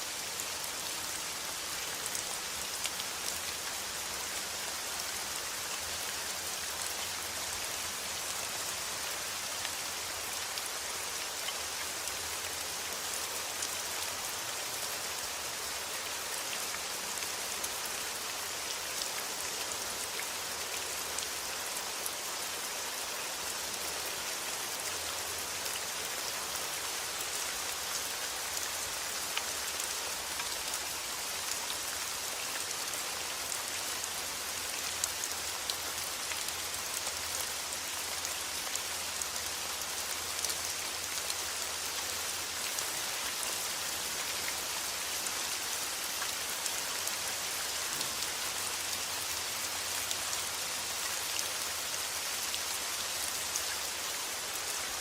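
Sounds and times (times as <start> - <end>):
rain pattering: 0.1 - 55.0.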